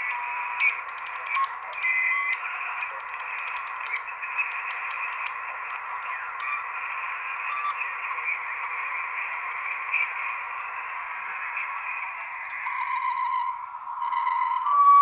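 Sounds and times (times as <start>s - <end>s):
radio carrier whistle: 0.0s - 10.5s, 12.6s - 15.0s
radio band hiss: 0.0s - 15.0s.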